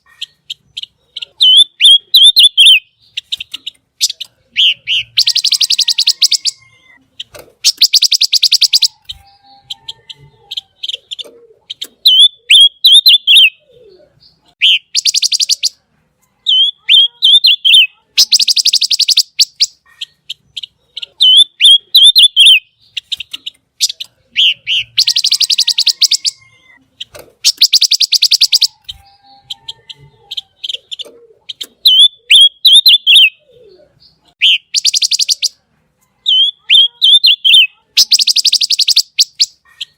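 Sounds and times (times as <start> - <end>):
songbird trilling: 0.0 - 7.0, 7.6 - 15.8, 16.4 - 26.8, 27.4 - 35.6, 36.2 - 39.9
songbird warbled chirps: 0.0 - 15.8, 16.4 - 35.6, 36.2 - 39.9.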